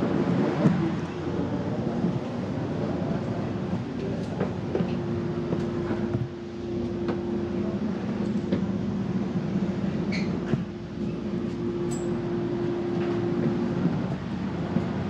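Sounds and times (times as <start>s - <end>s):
train interior low hum: 0.0s - 15.0s.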